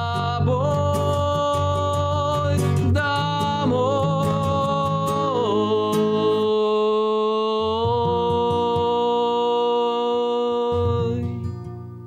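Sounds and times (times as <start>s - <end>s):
man singing a held note: 0.0s - 11.4s
acoustic guitar chords: 0.0s - 12.0s.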